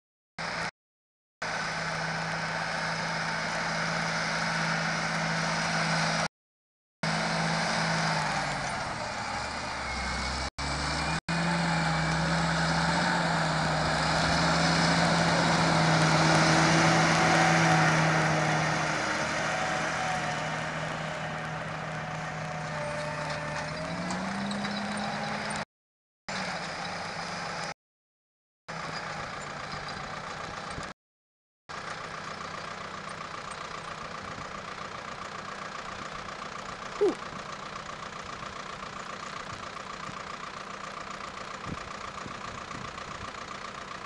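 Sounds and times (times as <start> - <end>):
tractor diesel engine droning: 0.4 - 0.7, 1.4 - 6.3, 7.0 - 25.6, 26.3 - 27.8, 28.7 - 30.9, 31.7 - 44.0.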